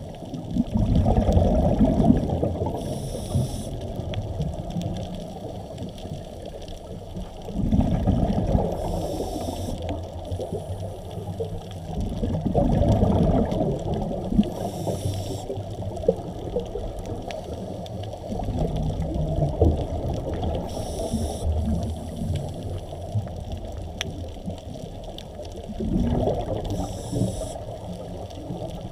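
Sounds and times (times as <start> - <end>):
muffled underwater water noise: 0.0 - 28.9.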